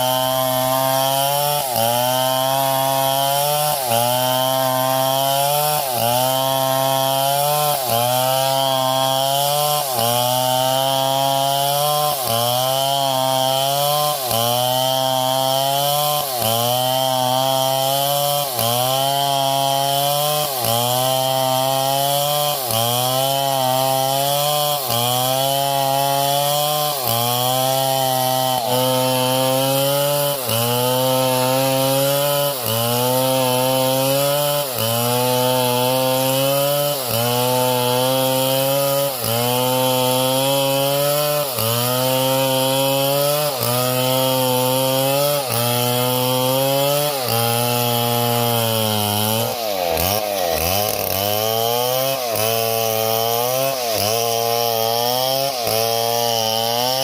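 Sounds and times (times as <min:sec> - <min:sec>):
small chainsaw engine running: 0:00.0 - 0:57.0.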